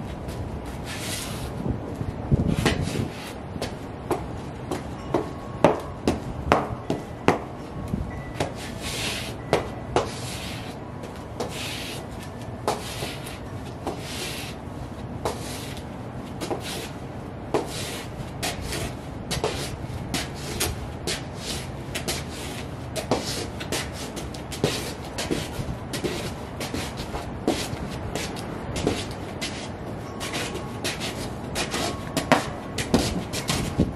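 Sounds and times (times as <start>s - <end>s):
soles scraping: 0.0s - 1.7s, 2.4s - 7.5s, 8.4s - 14.6s, 15.2s - 33.9s
boots tapping on concrete: 2.5s - 7.6s, 8.4s - 14.5s, 17.5s - 33.9s.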